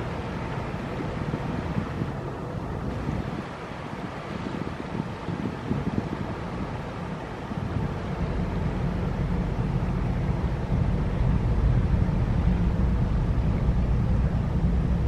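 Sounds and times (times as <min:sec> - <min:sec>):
ship diesel engines rumbling: 0:00.0 - 0:15.0.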